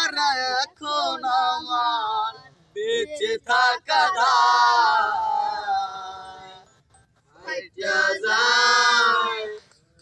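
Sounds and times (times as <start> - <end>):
men singing together unaccompanied: 0.0 - 9.8.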